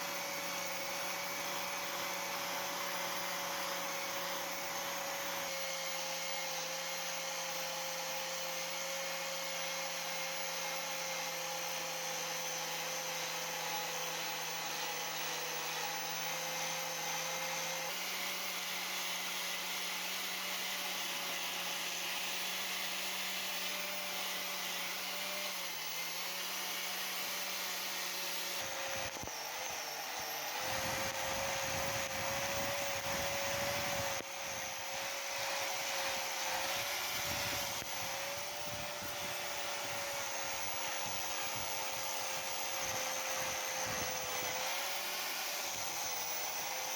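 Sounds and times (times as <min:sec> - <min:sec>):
electric power tool whining: 0:00.0 - 0:46.9.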